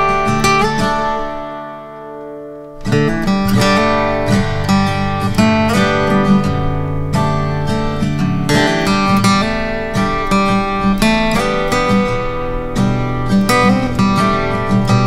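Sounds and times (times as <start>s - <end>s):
plucked instrumental music: 0.0s - 15.0s.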